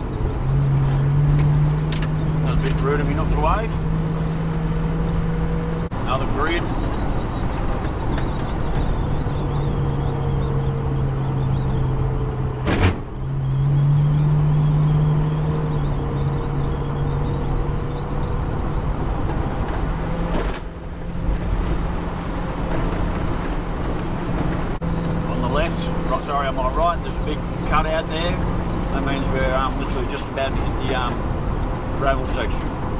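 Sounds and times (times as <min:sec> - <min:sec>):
car engine running: 0:00.0 - 0:32.9
tyre and road noise: 0:00.0 - 0:32.9.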